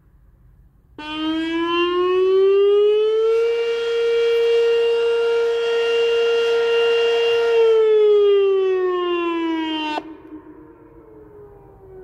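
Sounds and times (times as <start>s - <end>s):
tornado siren steady tone: 0.6s - 12.0s.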